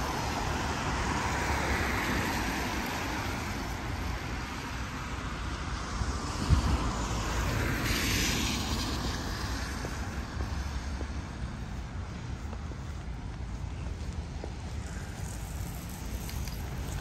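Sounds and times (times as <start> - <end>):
passing vehicle hiss: 0.0 - 12.0, 14.7 - 17.0
road traffic rumble: 0.0 - 17.0.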